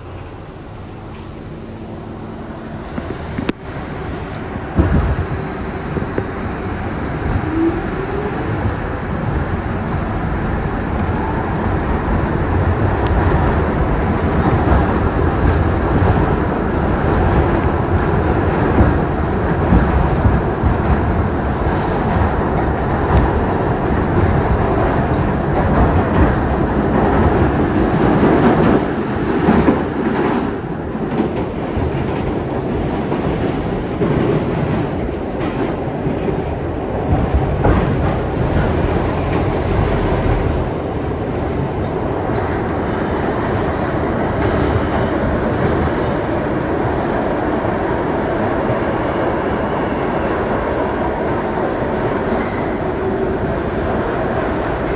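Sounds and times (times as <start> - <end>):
subway car rumbling on track: 0.0 - 54.9.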